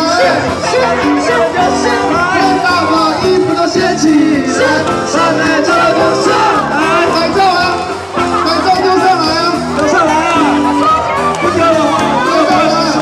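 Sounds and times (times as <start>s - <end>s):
man singing: 0.0s - 10.6s, 11.5s - 13.0s
live pop-rock band: 0.0s - 13.0s.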